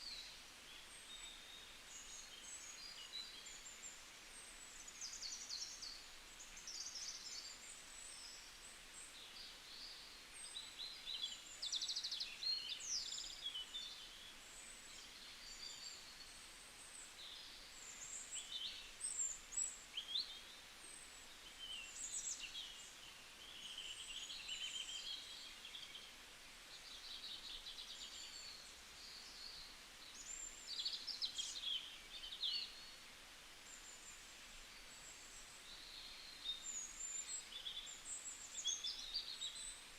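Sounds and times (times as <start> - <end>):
faint steady hiss: 0.0 - 39.9
small birds singing: 0.0 - 39.9.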